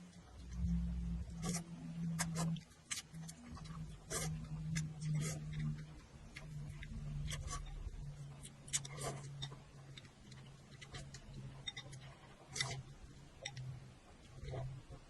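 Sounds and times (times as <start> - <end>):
low steady hum: 0.0 - 15.0
mouth chewing noodles: 0.4 - 13.7.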